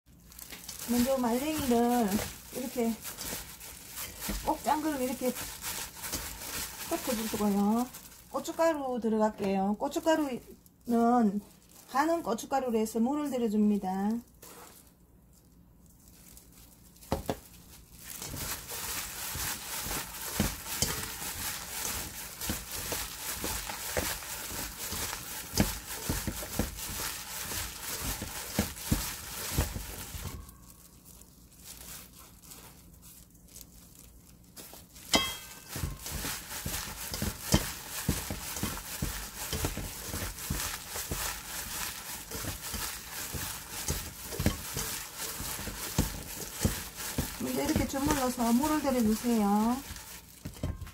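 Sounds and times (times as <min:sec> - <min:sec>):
radish squishing: 0:00.1 - 0:09.4, 0:14.0 - 0:50.9
plastic gloves crinkling: 0:00.1 - 0:50.9.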